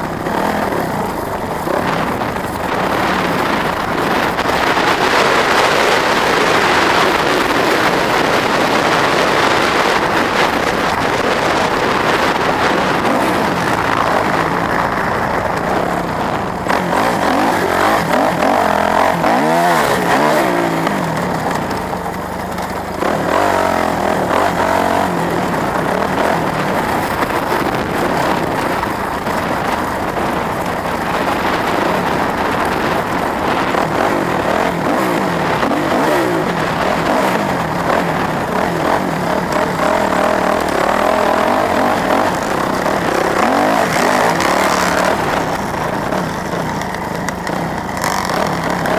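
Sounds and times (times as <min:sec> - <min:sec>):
engine rumbling and revving: 0:00.0 - 0:48.9.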